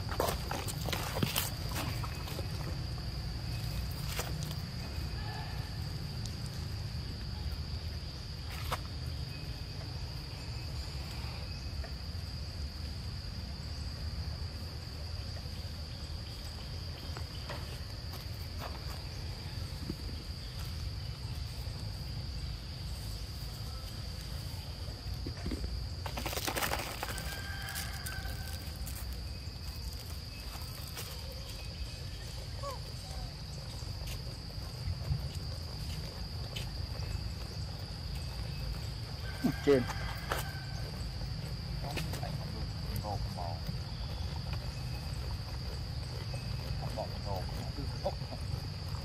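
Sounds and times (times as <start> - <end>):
insect high-pitched drone: 0.0 - 49.0.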